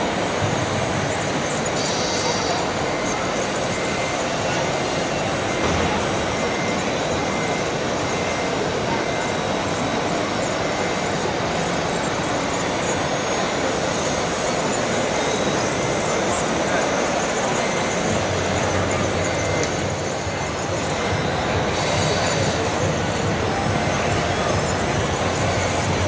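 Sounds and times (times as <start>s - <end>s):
constant rushing noise: 0.0s - 26.0s
hubbub of many voices: 0.0s - 26.0s.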